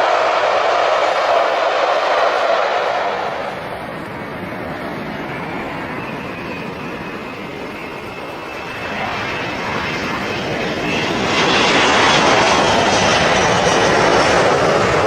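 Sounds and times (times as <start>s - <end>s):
airplane engine rushing: 0.0s - 15.0s.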